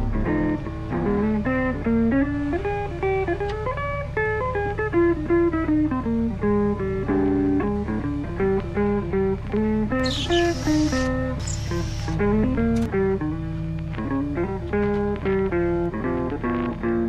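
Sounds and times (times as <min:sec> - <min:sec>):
guitar tune: 0:00.0 - 0:17.0.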